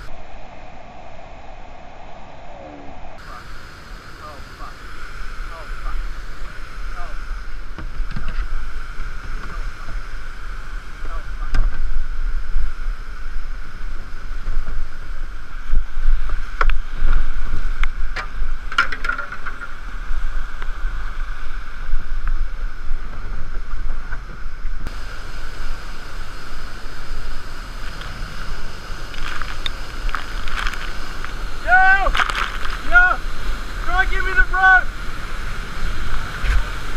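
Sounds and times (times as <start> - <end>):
waterfall rushing: 3.1 - 21.7, 24.9 - 36.9.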